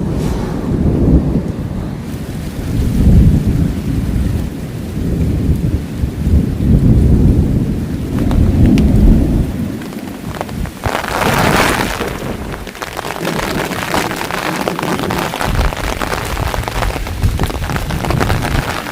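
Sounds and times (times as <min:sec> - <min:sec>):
heavy rain: 0:00.0 - 0:18.9
thunder rumbling: 0:00.0 - 0:18.9.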